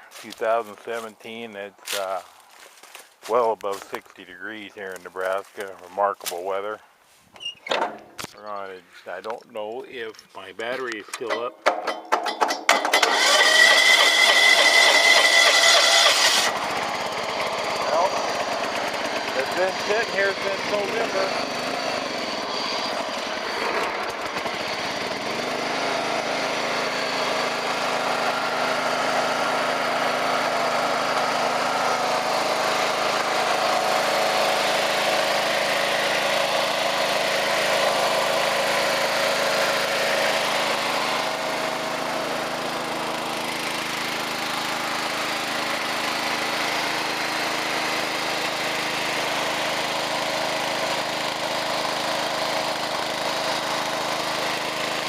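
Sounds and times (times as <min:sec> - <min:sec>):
engine starting and idling: 0:10.8 - 0:55.0.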